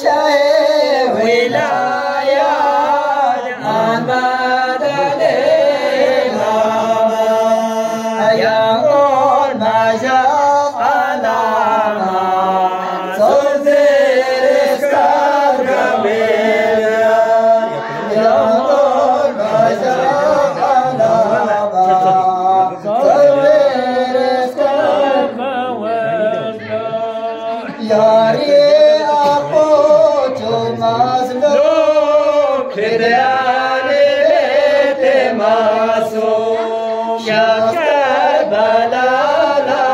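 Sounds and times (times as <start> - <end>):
men chanting: 0.0 - 39.9.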